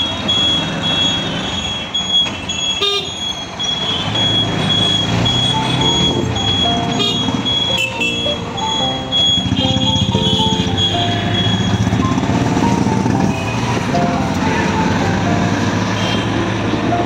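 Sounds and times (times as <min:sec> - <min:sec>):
auto-rickshaw engine: 0:00.0 - 0:17.0
city traffic: 0:00.0 - 0:17.0
vehicle horns honking: 0:00.0 - 0:17.0.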